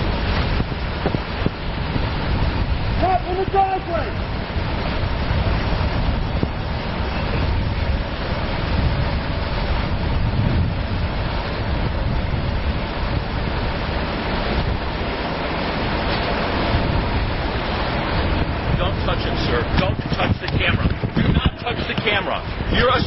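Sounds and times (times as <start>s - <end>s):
street noise rumble: 0.0s - 23.0s
wind buffeting microphone: 0.0s - 23.0s.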